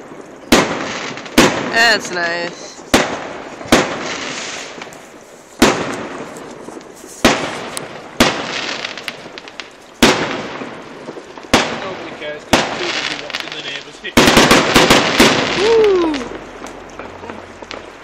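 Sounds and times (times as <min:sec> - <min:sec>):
faint fireworks crackles: 0:00.0 - 0:18.0
fireworks bangs: 0:00.0 - 0:18.0.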